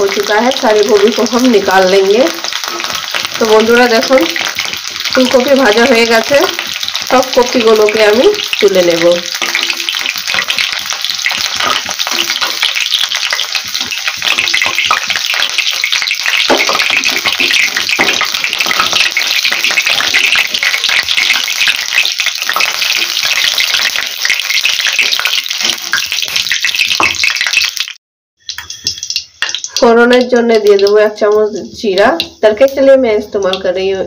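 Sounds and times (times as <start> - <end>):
oil sizzling in a wok: 0.0 - 34.0.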